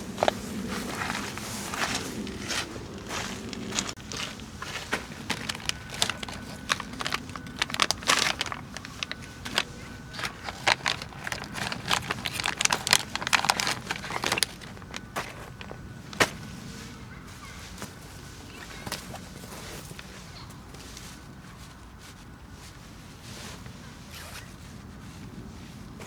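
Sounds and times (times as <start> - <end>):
camping gear clicking and rustling: 0.0 - 24.8.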